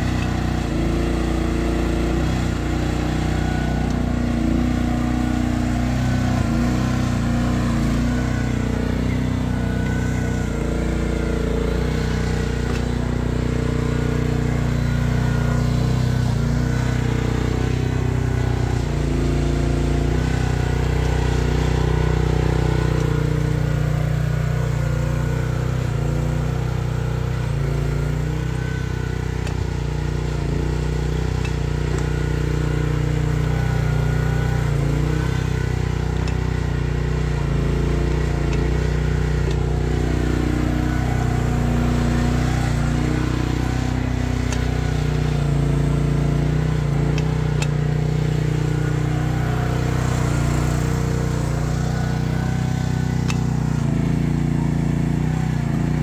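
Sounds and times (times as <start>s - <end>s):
mini excavator engine running: 0.0s - 56.0s.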